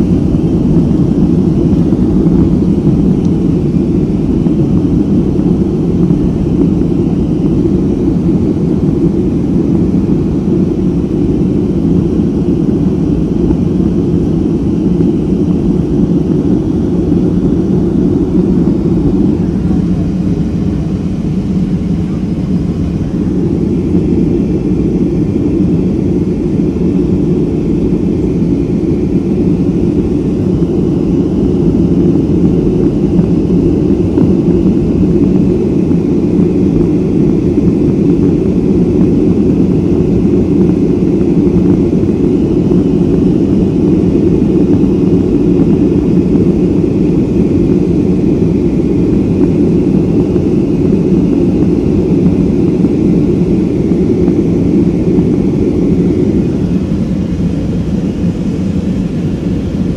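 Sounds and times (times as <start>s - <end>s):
airplane cabin engine roar: 0.0s - 59.9s
faint steady whine: 0.0s - 59.9s.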